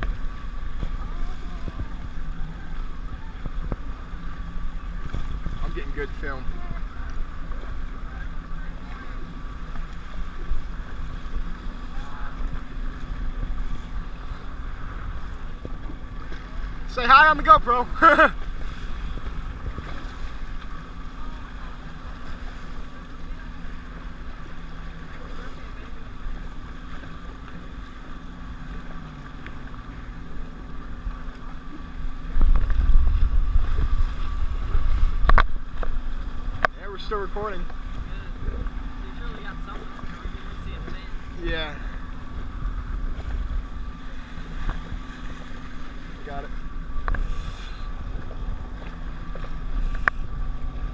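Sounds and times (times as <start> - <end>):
wind buffeting microphone: 0.0 - 17.0, 17.9 - 25.0, 30.2 - 50.9
jet ski engine running: 0.0 - 50.9.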